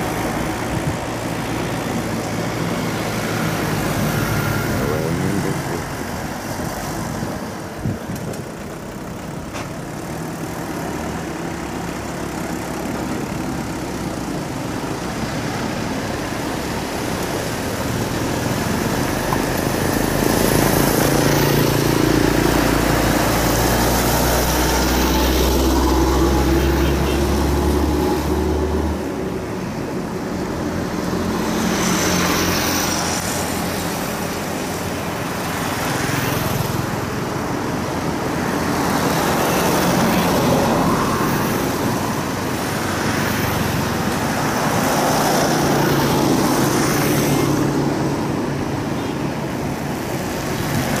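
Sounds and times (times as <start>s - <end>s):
motor scooters passing: 0.0s - 51.0s
steady road noise: 0.0s - 51.0s.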